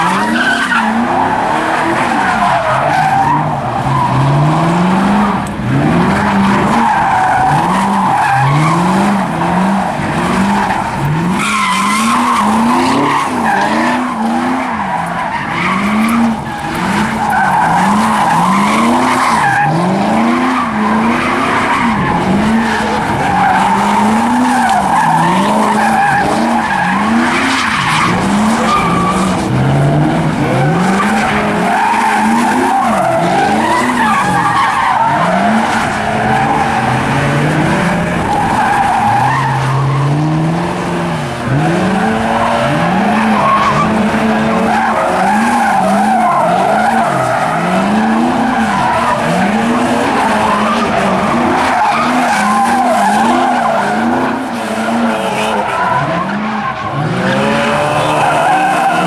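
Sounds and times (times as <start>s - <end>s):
car engine revving: 0.0s - 59.0s
tires screeching: 0.0s - 59.0s.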